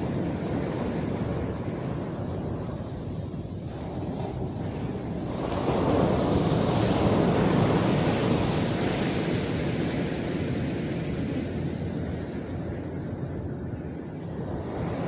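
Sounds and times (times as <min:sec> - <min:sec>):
wave breaking on shore: 0:00.0 - 0:15.0
wind buffeting microphone: 0:00.0 - 0:15.0.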